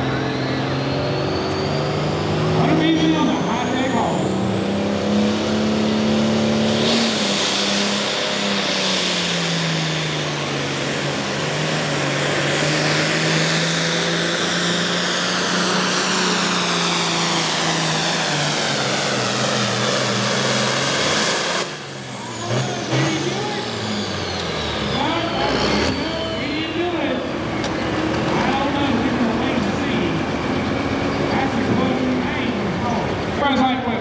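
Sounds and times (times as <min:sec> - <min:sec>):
diesel engine running flat out: 0:00.0 - 0:34.0
high turbo whine: 0:00.0 - 0:34.0.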